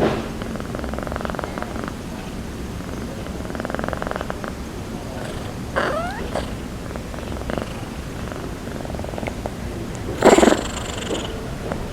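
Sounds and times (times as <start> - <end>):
cat snoring: 0.0 - 11.5.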